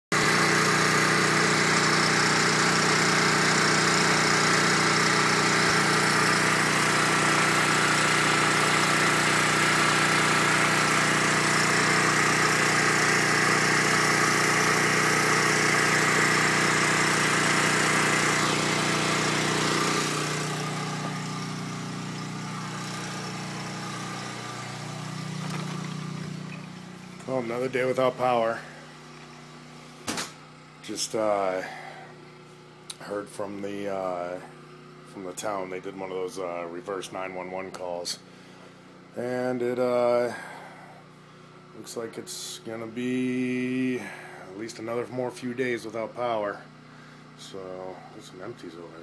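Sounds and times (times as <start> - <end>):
generator engine humming: 0.1 - 49.0.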